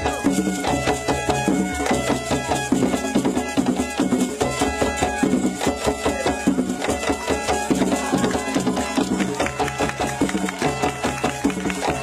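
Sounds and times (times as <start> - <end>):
fast dense drumming: 0.0 - 12.0
struck percussion: 0.0 - 12.0.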